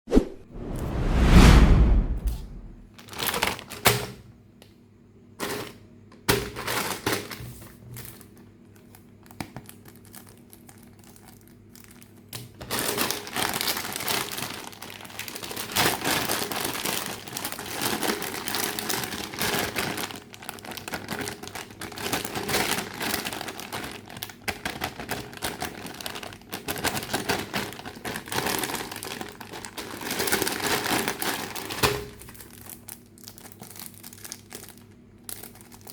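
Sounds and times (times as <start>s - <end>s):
packaging crinkling and rustling: 2.9s - 4.0s, 6.4s - 35.9s.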